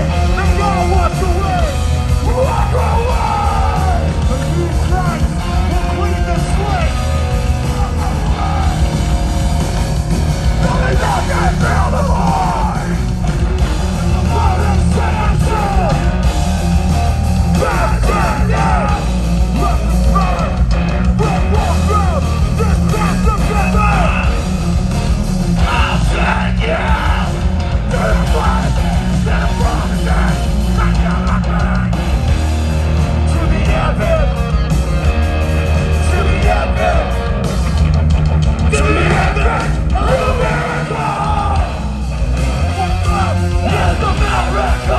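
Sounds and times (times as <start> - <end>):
live hardcore band playing: 0.0 - 44.9
yelled vocals: 0.0 - 44.9.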